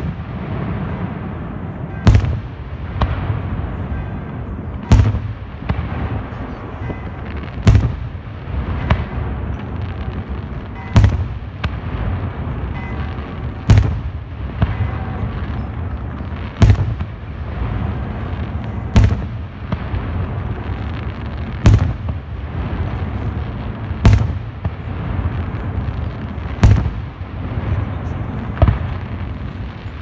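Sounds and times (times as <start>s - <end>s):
firework shell booms: 0.0s - 30.0s
fireworks din: 0.0s - 30.0s.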